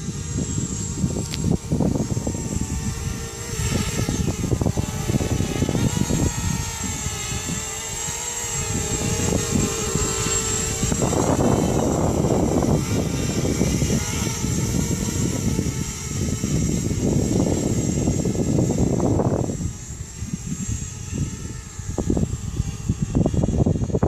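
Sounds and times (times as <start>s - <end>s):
quadcopter motors whining: 0.0s - 24.0s
wind buffeting microphone: 0.0s - 24.0s.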